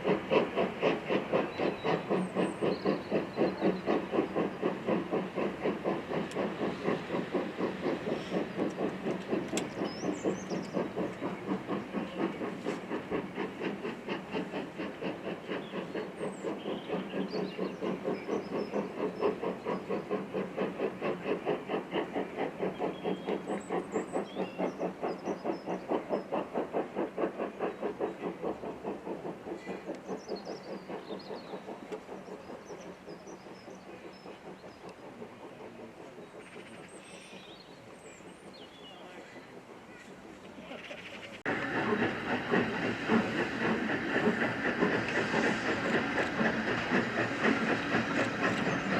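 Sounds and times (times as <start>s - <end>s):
steam hissing: 0.0s - 48.9s
steam locomotive exhaust beats: 0.0s - 48.9s.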